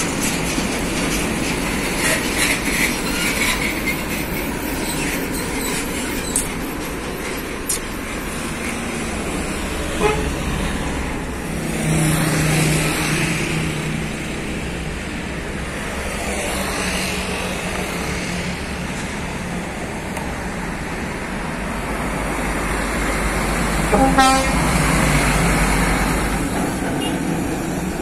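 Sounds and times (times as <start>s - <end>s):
heavy truck diesel engines: 0.0s - 28.0s
road noise: 0.0s - 28.0s.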